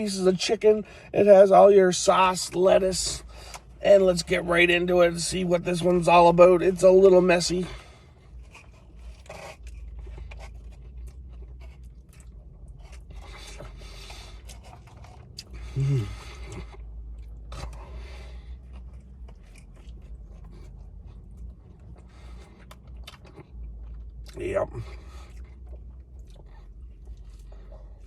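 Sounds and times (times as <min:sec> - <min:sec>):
chewing and crunching burger: 0:00.0 - 0:28.0.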